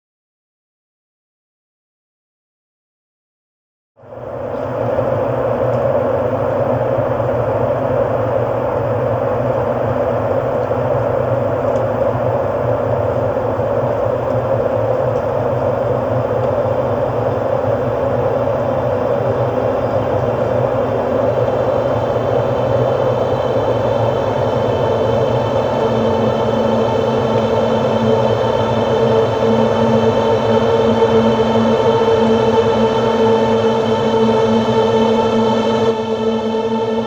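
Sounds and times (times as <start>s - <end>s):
ambient drone music: 4.0s - 37.0s.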